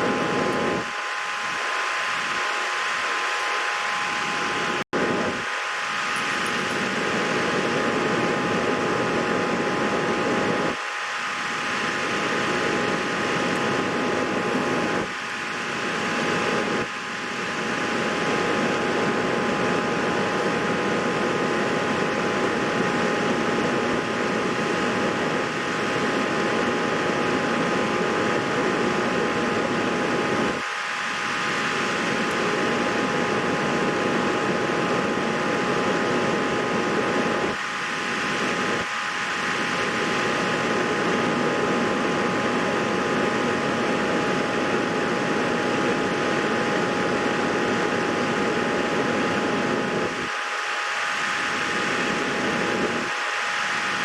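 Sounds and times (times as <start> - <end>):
faint steady whine: 0.0 - 54.0
whirring fan noise: 0.0 - 54.0.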